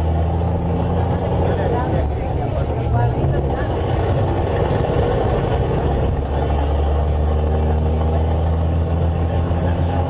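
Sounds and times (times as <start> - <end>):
bus diesel engine humming: 0.0 - 10.0.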